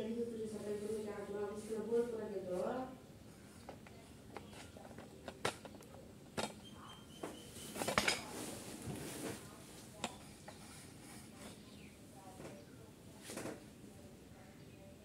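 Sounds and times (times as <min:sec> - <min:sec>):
faint rustling: 0:00.0 - 0:13.8.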